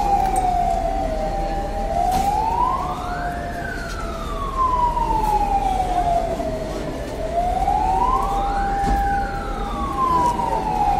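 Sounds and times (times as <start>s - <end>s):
fire engine siren wailing: 0.0s - 10.9s
second steady siren tone: 0.0s - 10.9s.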